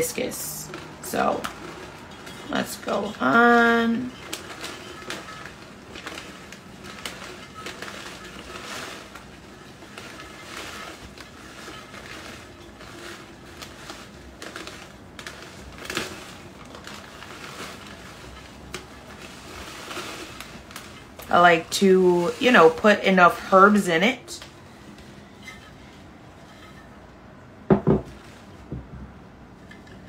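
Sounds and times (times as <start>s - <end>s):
dried flowers poured rustling: 0.0s - 30.0s.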